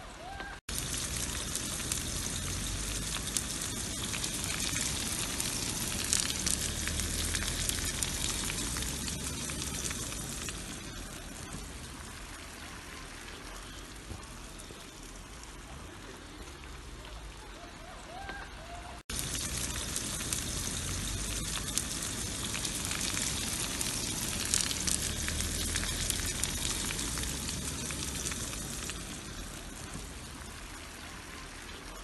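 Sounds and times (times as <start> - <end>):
sausage sizzling in oil: 0.7 - 17.1, 19.0 - 32.0.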